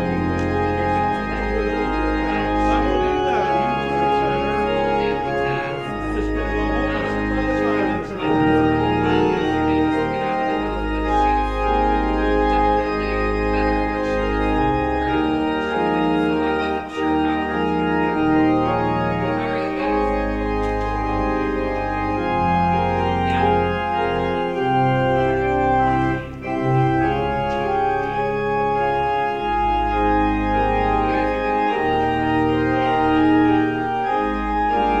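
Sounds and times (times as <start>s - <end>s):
church organ chords: 0.0s - 35.0s.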